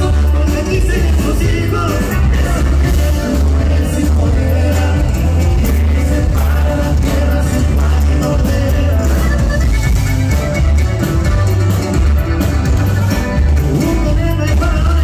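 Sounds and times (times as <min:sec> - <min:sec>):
deep bass notes: 0:00.0 - 0:15.0
live band playing through pa: 0:00.0 - 0:15.0.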